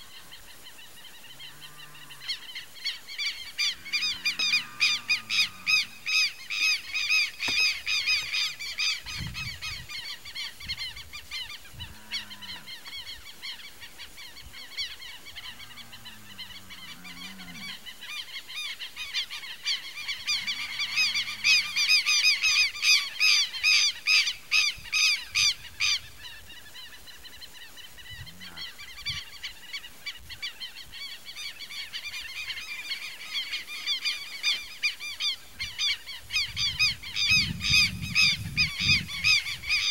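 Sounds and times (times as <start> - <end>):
low drawn-out bird calls: 0.0 - 39.9
birds chattering: 1.5 - 39.9.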